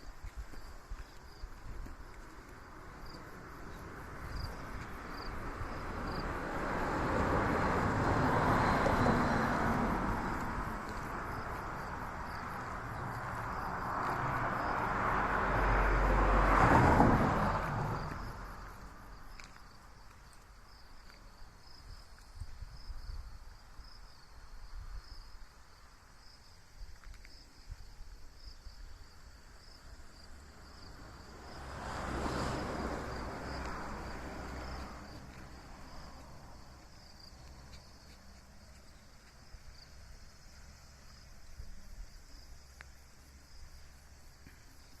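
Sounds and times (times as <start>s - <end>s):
high insect trill: 0.0s - 45.0s
vehicles passing by: 0.1s - 22.0s, 28.2s - 45.0s.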